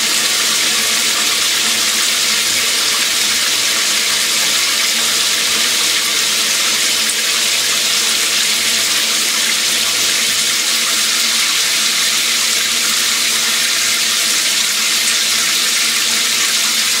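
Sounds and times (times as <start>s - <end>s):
shower water spraying: 0.0s - 17.0s.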